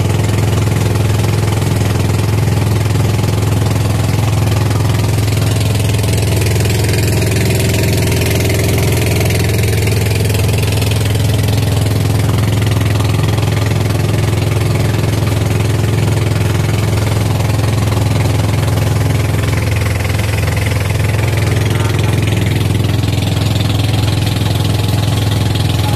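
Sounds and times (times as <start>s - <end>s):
boat engine humming: 0.0s - 25.9s.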